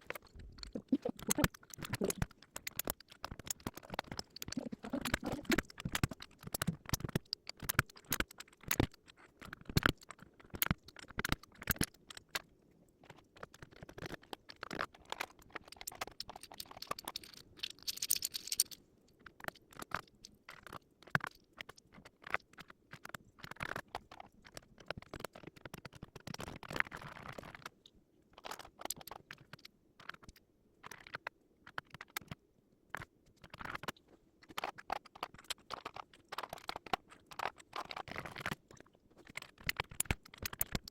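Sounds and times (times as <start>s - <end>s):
plastic keyboard parts clicking: 0.0s - 12.4s, 13.1s - 27.6s, 33.0s - 40.9s
crinkly rustle: 0.0s - 40.9s.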